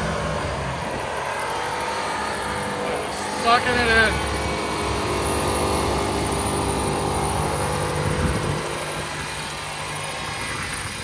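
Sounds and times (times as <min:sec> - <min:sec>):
truck engine at high revs: 0:00.0 - 0:11.0.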